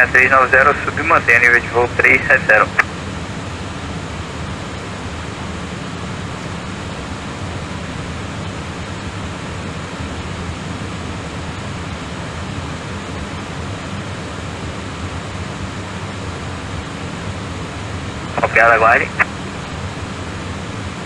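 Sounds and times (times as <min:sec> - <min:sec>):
airliner cabin engine drone: 0:00.0 - 0:21.0.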